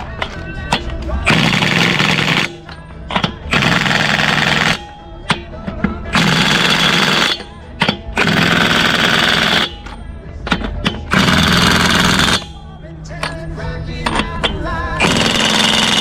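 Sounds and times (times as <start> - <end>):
impact wrench hammering: 0.0 - 16.0.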